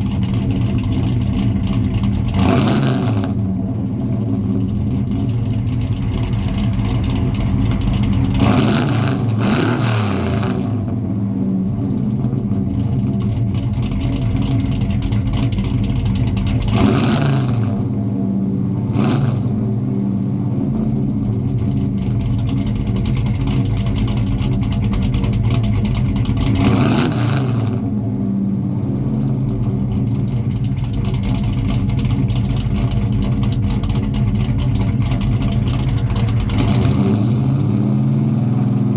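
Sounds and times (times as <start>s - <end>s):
engine revving: 0.0s - 38.9s
truck engine idling: 0.0s - 38.9s.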